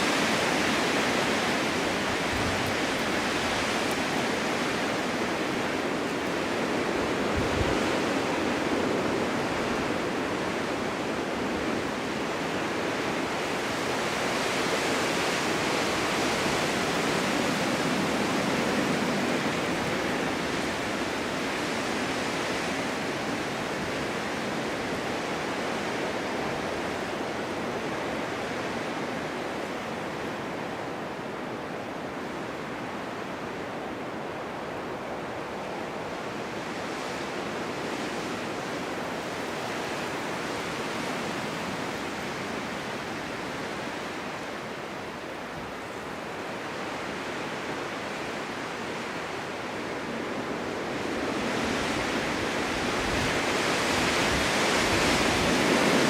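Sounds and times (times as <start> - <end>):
snowstorm wind: 0.0 - 56.0.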